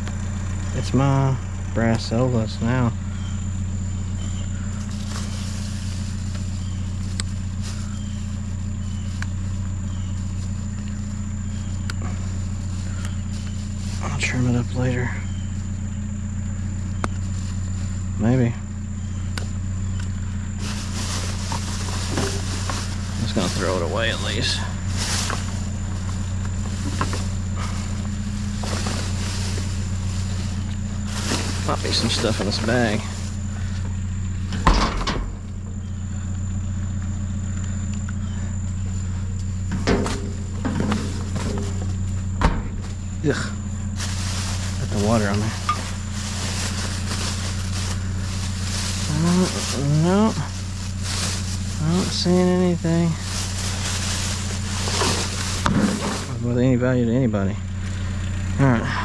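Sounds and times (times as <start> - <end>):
rustles: 0.0 - 56.9
truck engine idling: 0.0 - 59.0.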